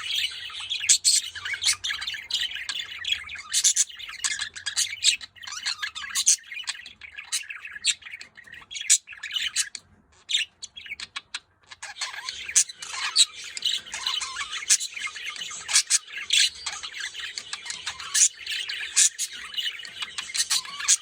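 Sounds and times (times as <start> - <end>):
budgerigars chirping and squawking: 0.0 - 21.0.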